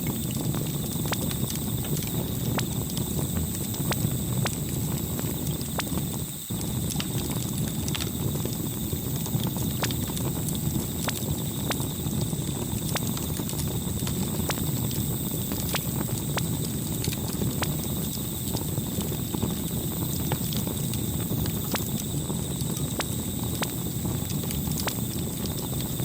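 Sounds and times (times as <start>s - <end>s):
campfire crackling and popping: 0.0s - 26.0s
low rumble of burning wood: 0.0s - 26.0s.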